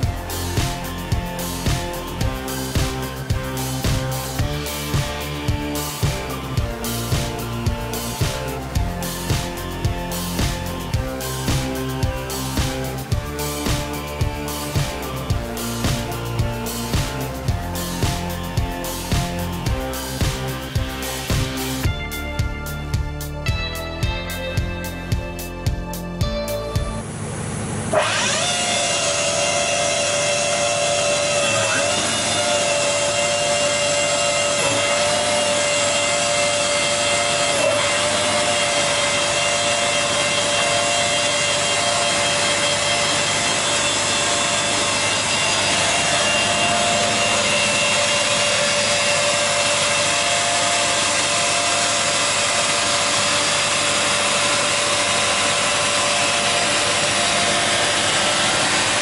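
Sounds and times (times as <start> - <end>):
planer cutter spindles whining: 0.0 - 21.9, 27.0 - 59.0.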